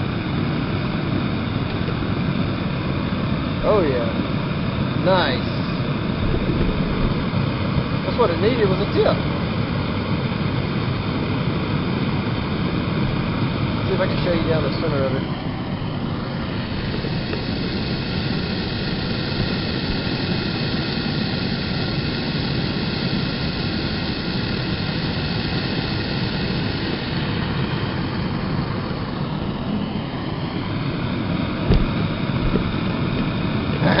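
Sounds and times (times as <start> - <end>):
gas burner roaring: 0.0 - 34.0.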